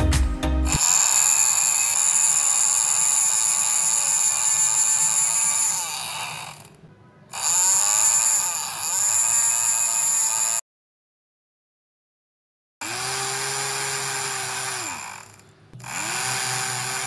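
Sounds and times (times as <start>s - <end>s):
small electric motor whining: 0.7s - 10.6s, 12.8s - 17.0s.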